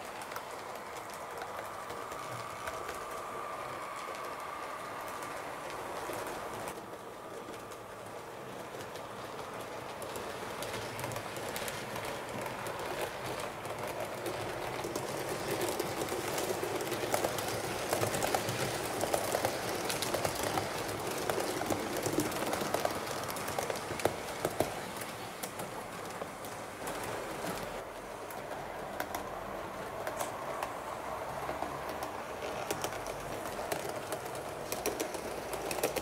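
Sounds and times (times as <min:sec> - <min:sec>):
clicks over rail joints: 0:00.0 - 0:36.0
model train rumbling: 0:00.0 - 0:36.0.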